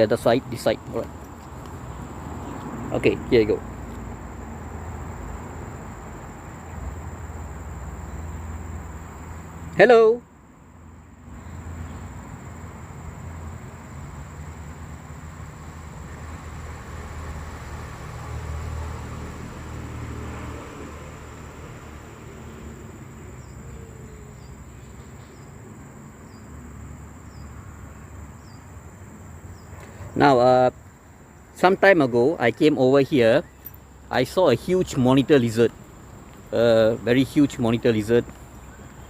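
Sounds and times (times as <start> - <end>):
high insect whine: 0.0 - 39.0.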